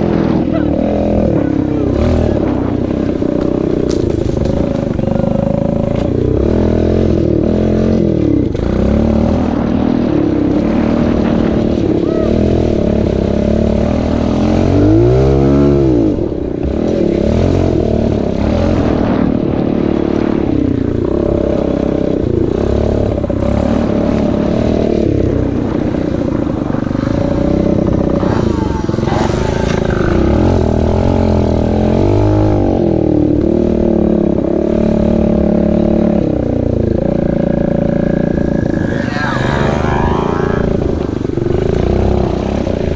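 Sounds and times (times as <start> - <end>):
pit bike engine revving: 0.0 - 42.9.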